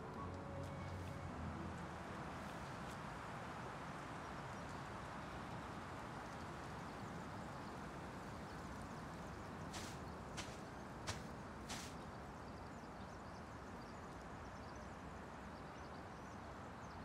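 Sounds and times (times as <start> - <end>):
forest ambience hiss: 0.4 - 17.0.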